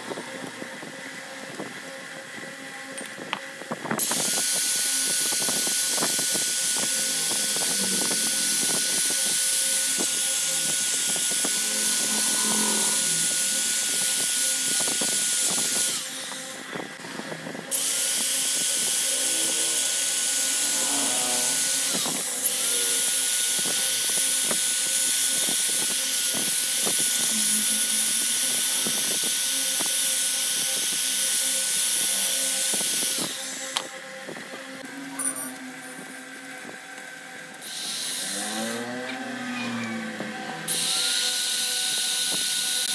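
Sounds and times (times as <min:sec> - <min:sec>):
electric drill whining: 0:00.0 - 0:42.9.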